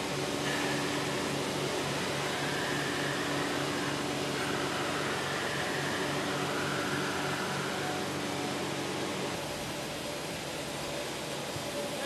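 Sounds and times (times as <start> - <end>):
sawmill machinery whirring hum: 0.0 - 12.0.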